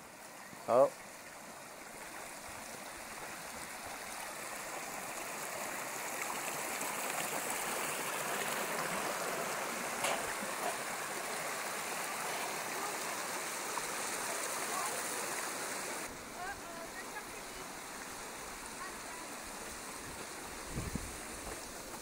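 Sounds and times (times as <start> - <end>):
stream rushing over stones: 0.0 - 22.0.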